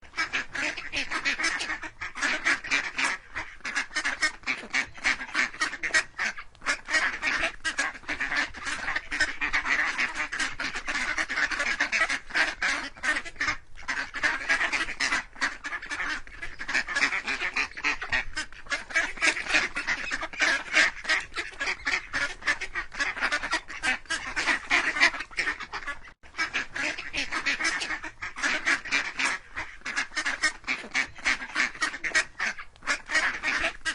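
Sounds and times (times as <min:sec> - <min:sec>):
ducks quacking: 0:00.0 - 0:33.9.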